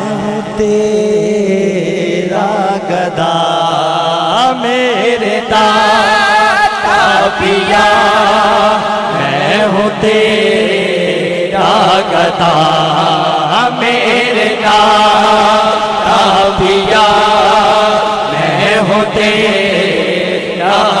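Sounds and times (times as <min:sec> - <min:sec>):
man chanting into microphone: 0:00.0 - 0:21.0.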